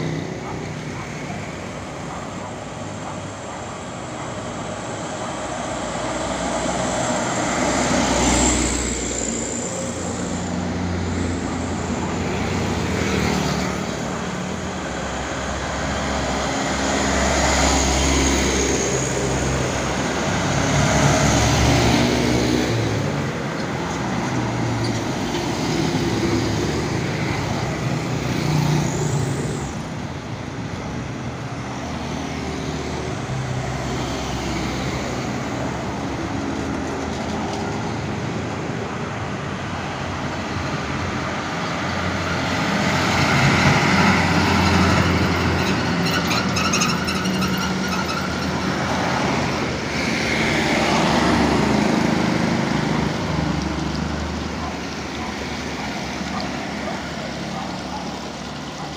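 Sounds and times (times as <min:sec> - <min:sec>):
tyres on road: 0:00.0 - 0:58.9
vehicles passing on road: 0:00.0 - 0:58.9.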